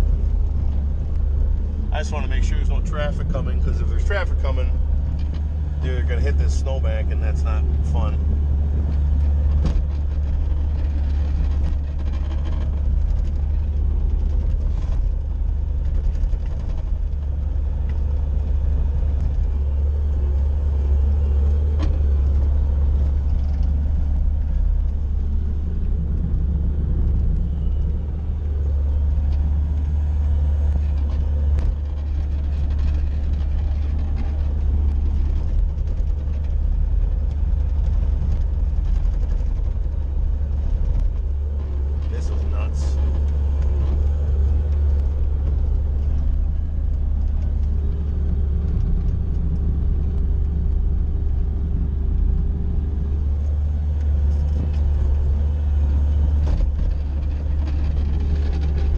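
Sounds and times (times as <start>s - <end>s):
diesel loader engine droning: 0.0s - 58.9s.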